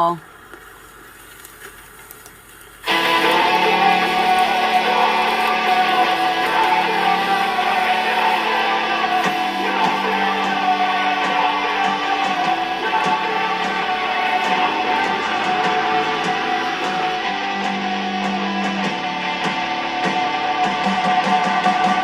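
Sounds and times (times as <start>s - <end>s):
guitar background music: 2.9s - 22.0s.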